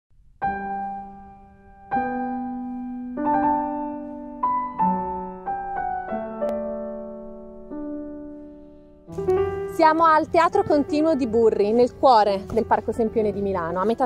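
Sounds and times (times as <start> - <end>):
slow piano notes and chords: 0.4 - 14.0.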